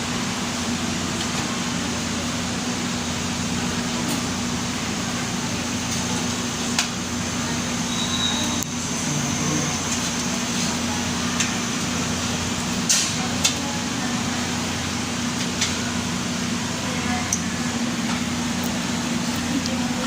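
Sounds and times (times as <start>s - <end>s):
fan humming and hissing: 0.0s - 20.0s.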